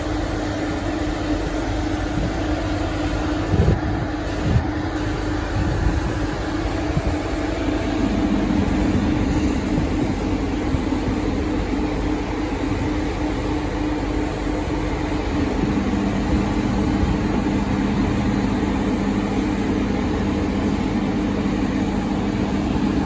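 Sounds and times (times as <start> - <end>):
machine engines droning: 0.0 - 23.0.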